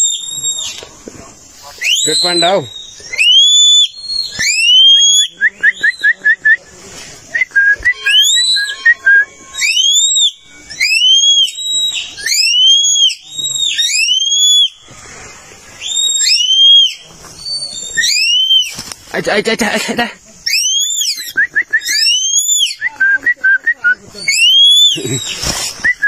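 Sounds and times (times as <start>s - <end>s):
loud rising and falling whistles: 0.0s - 0.9s, 1.8s - 6.6s, 7.3s - 18.8s, 20.4s - 26.0s.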